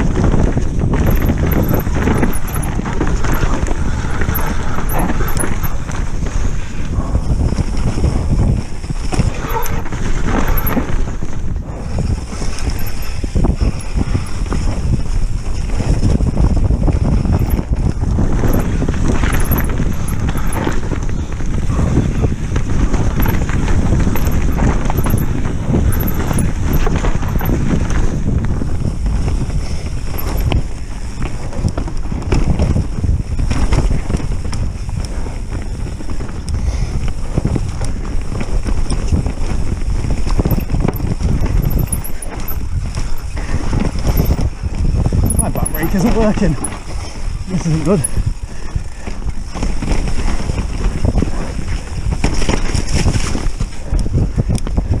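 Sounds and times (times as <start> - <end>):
tyres rumbling over dirt: 0.0 - 53.8
bike rattling over bumps: 0.0 - 55.0
wind noise on microphone: 0.0 - 55.0.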